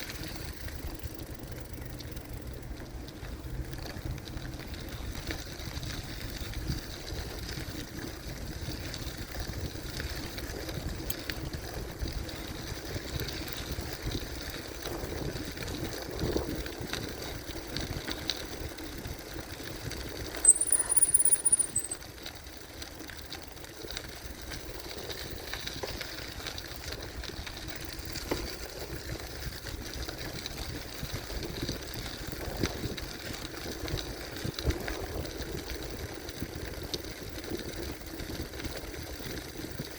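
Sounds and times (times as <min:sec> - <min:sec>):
bicycle rattles and ticks: 0:00.0 - 0:39.9
bicycle tyre rumble: 0:00.0 - 0:39.9.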